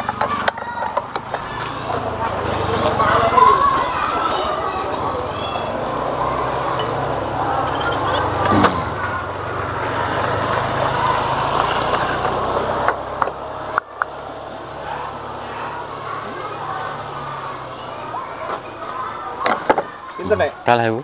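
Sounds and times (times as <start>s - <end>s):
engine idling: 0.0s - 20.5s
children chattering: 0.0s - 21.0s.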